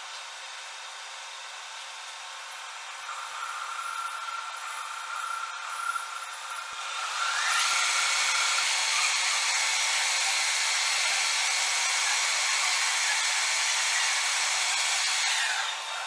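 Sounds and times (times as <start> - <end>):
metal lathe running: 2.7 - 16.0.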